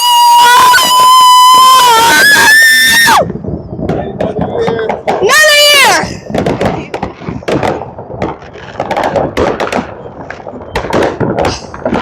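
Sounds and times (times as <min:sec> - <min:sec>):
fireworks bangs: 0:00.0 - 0:12.0
fireworks crackling pops: 0:00.0 - 0:12.0.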